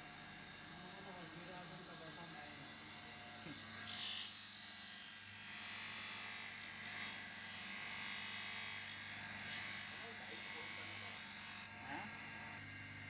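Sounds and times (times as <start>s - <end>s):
electric motor humming: 1.0s - 13.0s.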